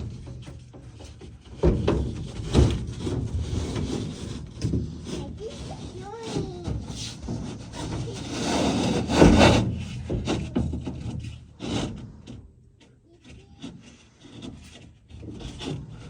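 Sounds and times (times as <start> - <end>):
wooden panel scraping: 0.0 - 16.0.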